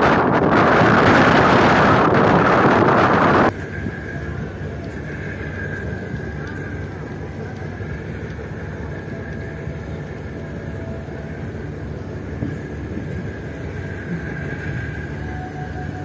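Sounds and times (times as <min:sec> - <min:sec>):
choppy sea waves: 0:00.0 - 0:16.0
strong wind roaring: 0:00.0 - 0:16.0.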